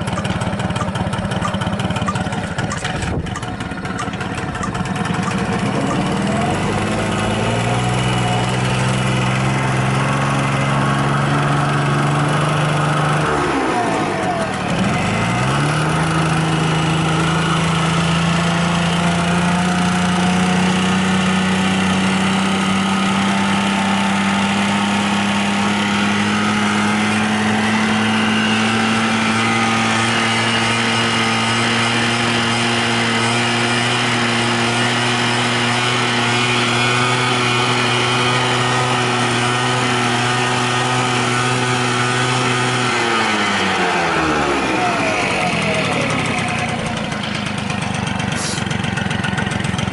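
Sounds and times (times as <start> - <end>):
moped engine running: 0.0 - 49.9.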